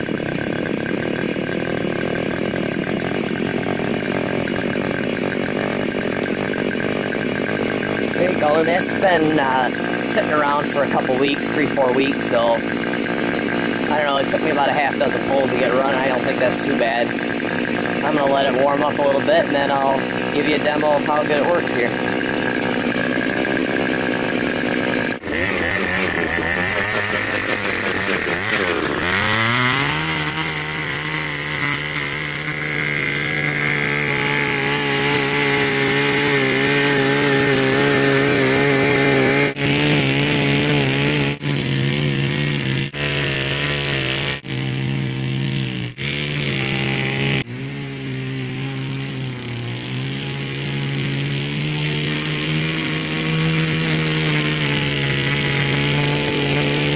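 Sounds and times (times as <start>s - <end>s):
cultivator engine running: 0.0s - 56.9s.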